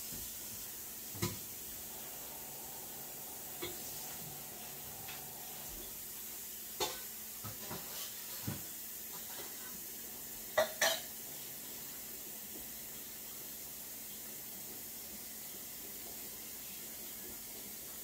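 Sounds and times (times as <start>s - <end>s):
background hiss: 0.0s - 15.8s.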